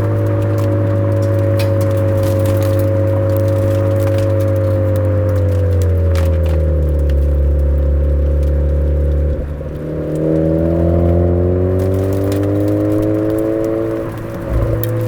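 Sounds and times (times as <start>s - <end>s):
car exhaust note accelerating: 0.0s - 15.0s.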